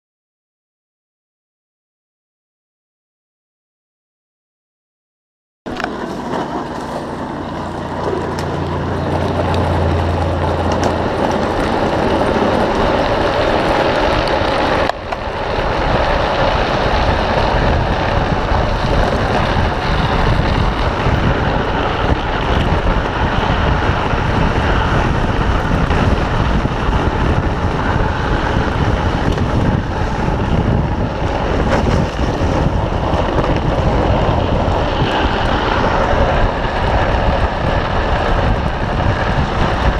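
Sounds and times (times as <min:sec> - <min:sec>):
wheels scraping on asphalt: 0:05.7 - 0:39.9
wind on microphone: 0:05.7 - 0:39.9.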